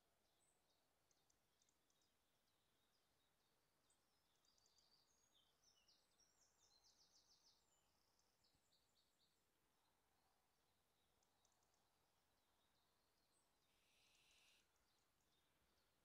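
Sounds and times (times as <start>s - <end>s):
small bird chirps and trills: 0.0s - 10.0s, 10.6s - 16.0s.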